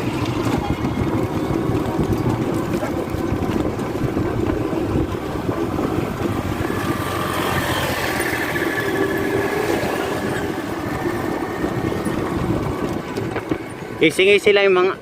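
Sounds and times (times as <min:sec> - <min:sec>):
road rumble: 0:00.0 - 0:15.0
wind: 0:00.0 - 0:15.0.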